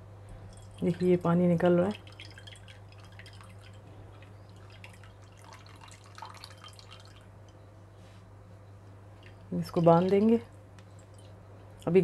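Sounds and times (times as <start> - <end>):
low steady hum: 0.0 - 12.0
liquid dripping into a bowl: 0.4 - 7.7, 9.2 - 11.9.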